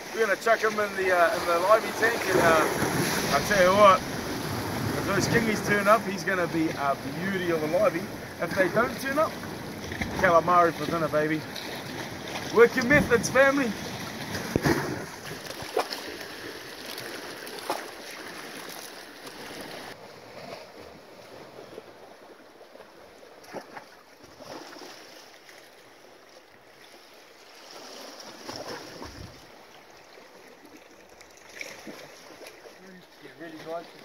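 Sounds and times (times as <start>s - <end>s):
sea water washing: 0.0s - 34.0s
wind: 0.0s - 34.0s.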